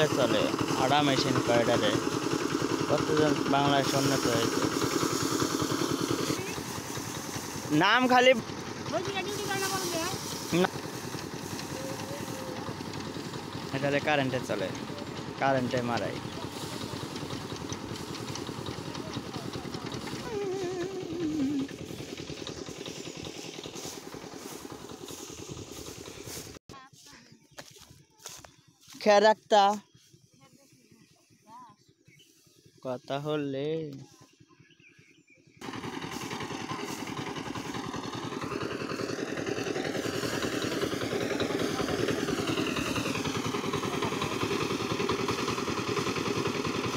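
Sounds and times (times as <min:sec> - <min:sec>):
threshing machine clattering: 0:00.0 - 0:26.6, 0:35.6 - 0:46.9.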